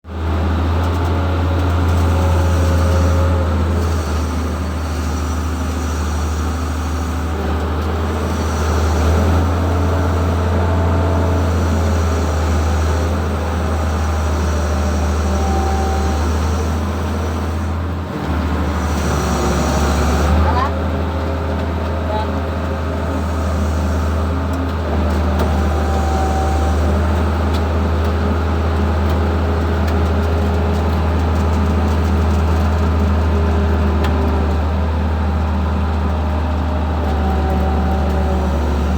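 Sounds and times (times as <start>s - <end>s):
engine rumbling: 0.0s - 38.9s.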